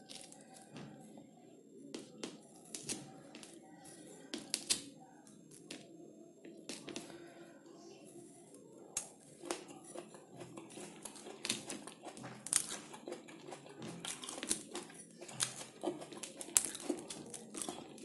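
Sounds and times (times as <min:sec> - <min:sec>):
soft crinkly noises: 0:00.0 - 0:18.0.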